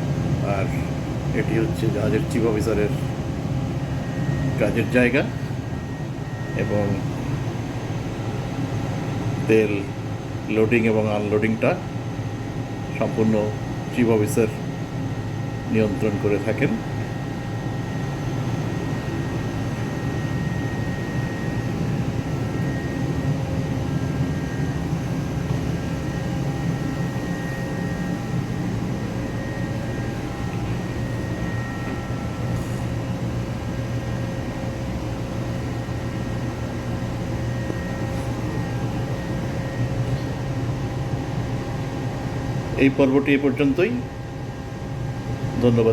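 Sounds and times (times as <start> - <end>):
faint steady whining tones: 0.0 - 45.9
ship machinery low hum: 0.0 - 45.9.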